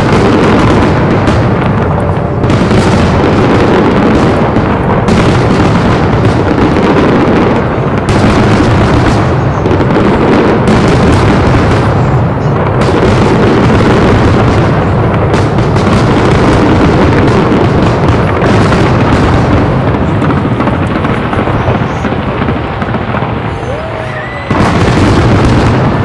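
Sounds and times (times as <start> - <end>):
fireworks bursting and crackling: 0.0 - 26.0.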